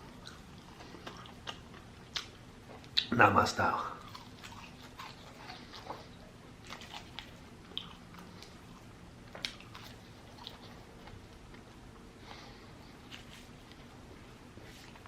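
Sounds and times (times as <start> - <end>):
food crunching: 0.0 - 3.1, 4.0 - 14.0
person chewing food: 0.0 - 3.1, 4.0 - 15.0.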